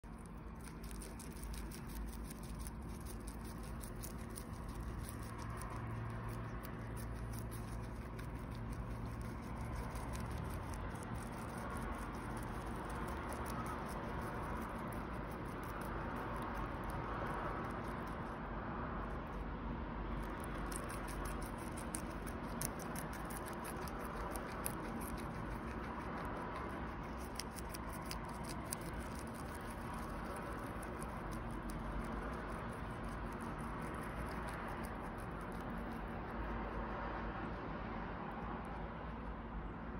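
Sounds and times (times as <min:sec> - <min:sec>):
guinea pig chewing: 0:00.0 - 0:19.5, 0:20.1 - 0:36.9
low background hum: 0:00.0 - 0:39.9.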